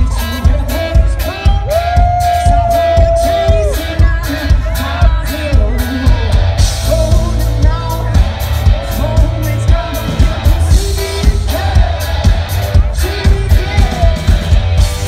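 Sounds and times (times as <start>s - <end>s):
distorted electric guitar: 0.0s - 15.0s
driving drum beat: 0.0s - 15.0s
person singing: 0.0s - 15.0s.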